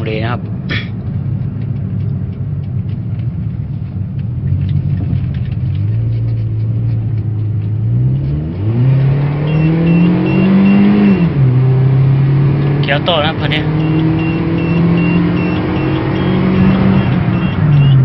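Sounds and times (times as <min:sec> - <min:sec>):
car engine accelerating hard: 0:03.4 - 0:18.0.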